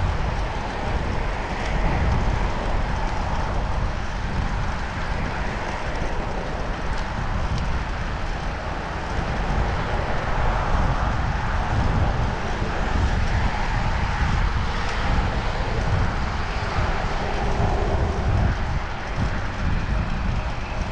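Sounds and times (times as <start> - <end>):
low rumble of road noise: 0.0 - 20.9
wind buffeting a camera: 0.0 - 20.9.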